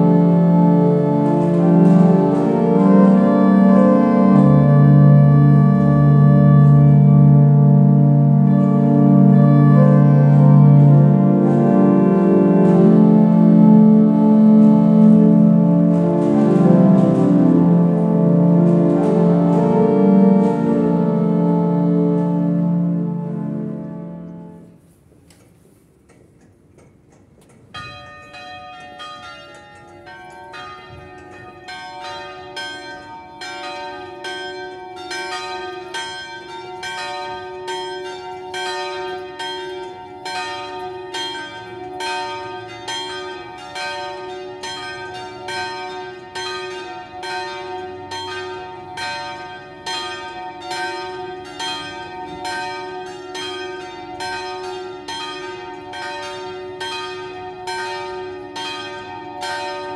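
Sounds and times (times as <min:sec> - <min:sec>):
church bells pealing: 0:00.0 - 0:24.8, 0:27.7 - 0:59.9.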